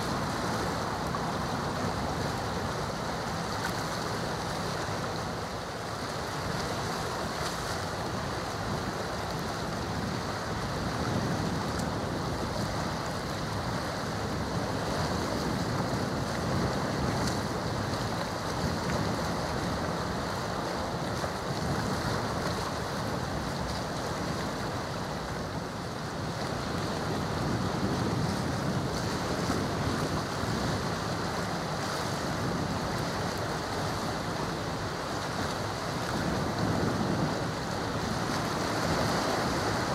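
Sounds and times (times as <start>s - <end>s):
seawater washing: 0.0s - 39.9s
wind on microphone: 0.0s - 39.9s.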